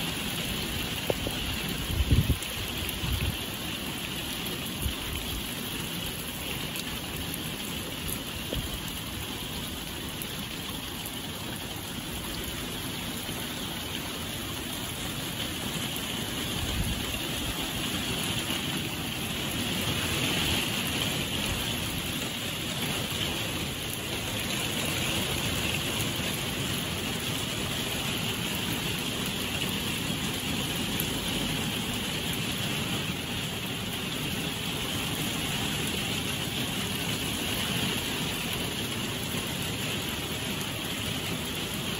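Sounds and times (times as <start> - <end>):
heavy rain on paving: 0.0 - 41.9.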